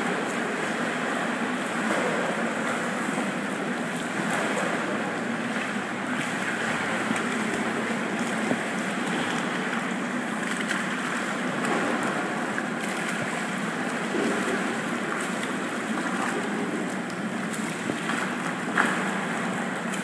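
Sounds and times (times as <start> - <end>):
water splashing in swimming pool: 0.0 - 20.0.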